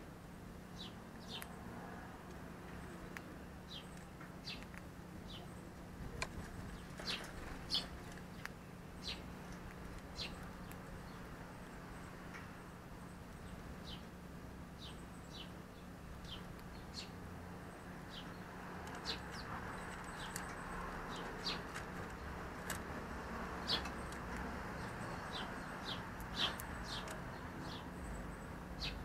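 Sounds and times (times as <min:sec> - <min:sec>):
small bird chirping: 0:02.8 - 0:05.7, 0:06.3 - 0:14.1, 0:14.8 - 0:22.5, 0:23.5 - 0:29.0.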